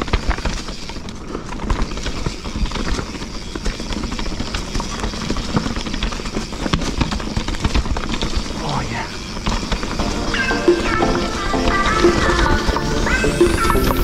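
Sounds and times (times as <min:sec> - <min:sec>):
bike knocks and rattles: 0:00.0 - 0:14.0
bike rushing over trail: 0:00.0 - 0:14.0.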